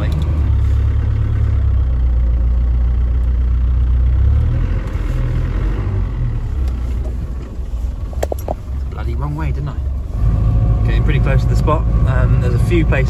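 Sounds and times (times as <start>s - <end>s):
engine droning under load: 0.0s - 13.0s.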